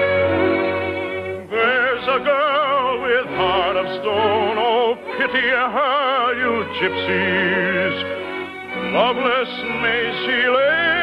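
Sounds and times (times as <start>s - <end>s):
operatic singer with vibrato: 0.0s - 11.0s
orchestra playing: 0.0s - 11.0s.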